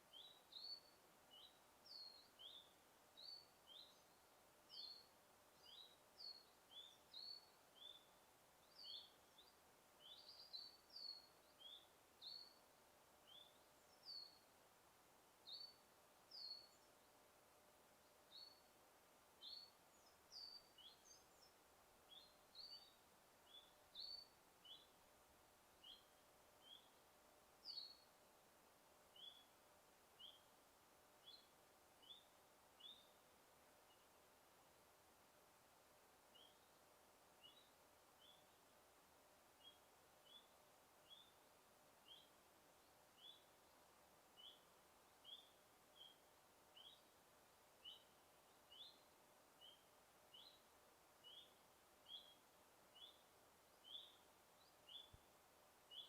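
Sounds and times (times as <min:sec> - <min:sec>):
faint steady hiss: 0:00.0 - 0:56.0
songbirds chirping: 0:00.0 - 0:56.0.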